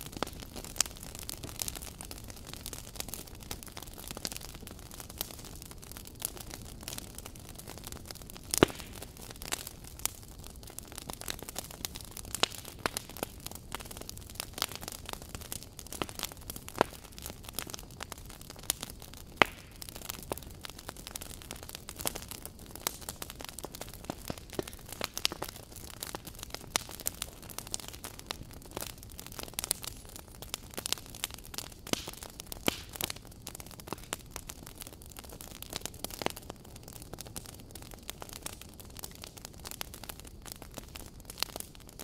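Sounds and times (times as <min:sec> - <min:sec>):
fire crackling with pops and snaps: 0:00.0 - 0:42.0.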